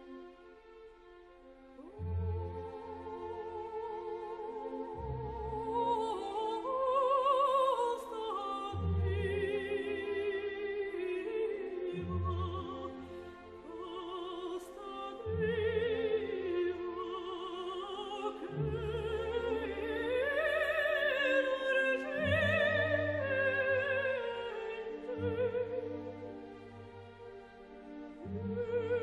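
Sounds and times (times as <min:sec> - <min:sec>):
soprano singing: 0:01.8 - 0:29.0.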